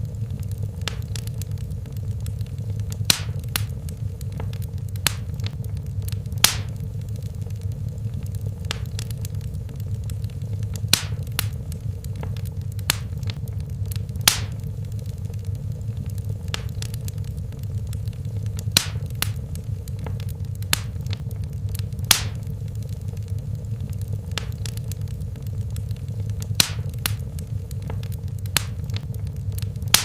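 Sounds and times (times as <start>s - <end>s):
burning logs crackling: 0.0s - 30.0s
low rumble of flames: 0.0s - 30.0s.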